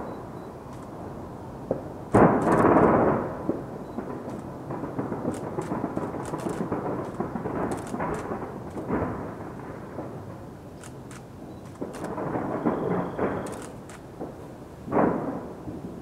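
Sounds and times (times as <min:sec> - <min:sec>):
distant fireworks rumble: 0:00.0 - 0:16.0
faint fireworks crackle: 0:00.0 - 0:16.0.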